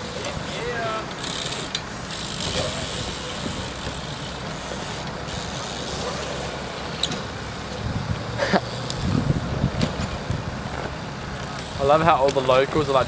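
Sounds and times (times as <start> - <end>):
bike tyres rumbling on concrete: 0.0 - 13.0.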